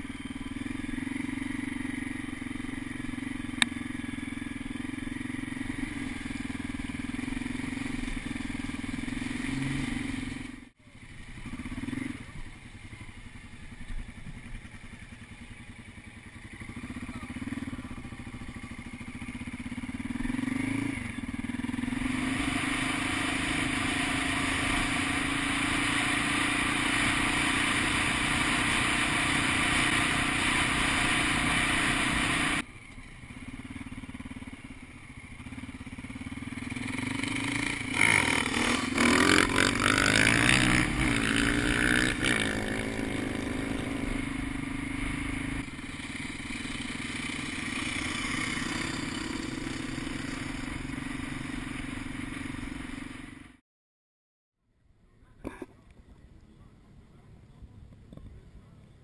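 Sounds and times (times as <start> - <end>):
motorcycle engine revving: 0.0 - 53.6.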